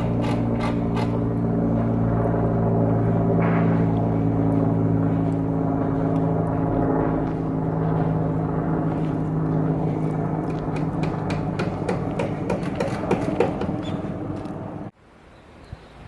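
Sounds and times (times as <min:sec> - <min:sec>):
motor drone: 0:00.0 - 0:14.9
outdoor background: 0:00.0 - 0:16.0.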